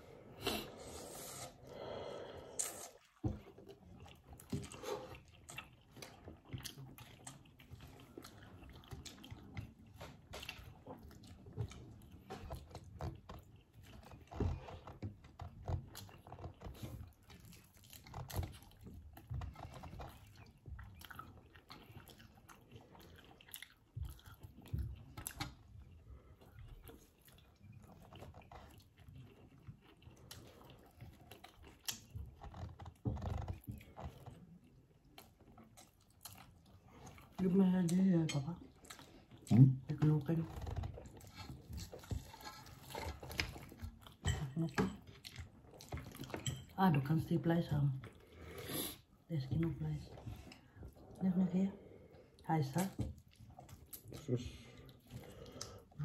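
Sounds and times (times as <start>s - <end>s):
chewing crispy fried chicken: 0.1s - 56.0s.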